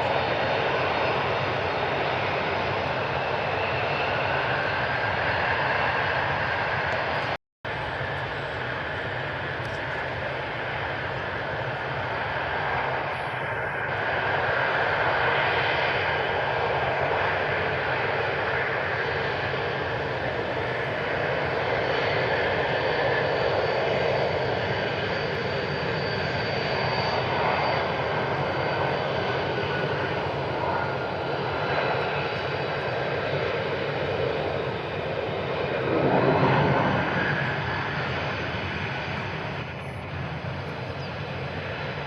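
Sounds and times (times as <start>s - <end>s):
jet engine rushing: 0.0s - 42.0s.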